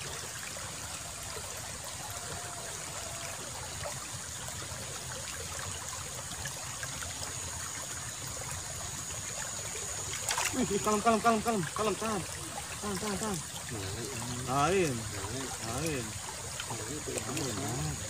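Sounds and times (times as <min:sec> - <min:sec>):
water trickling in a ditch: 0:00.0 - 0:18.0.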